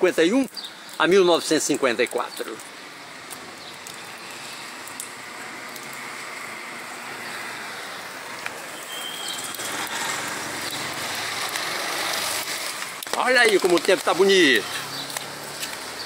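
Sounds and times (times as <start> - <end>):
tyres hissing on wet asphalt: 0.0 - 16.0.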